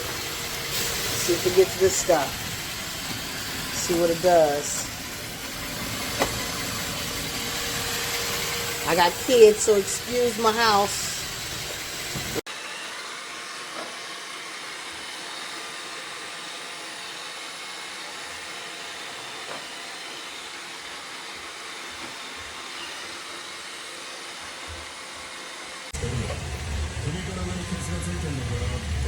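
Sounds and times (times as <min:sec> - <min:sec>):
robot vacuum running: 0:00.0 - 0:29.0.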